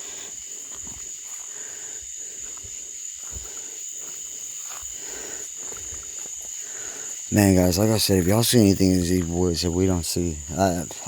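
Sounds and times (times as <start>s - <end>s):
night insects droning: 0.0s - 11.0s.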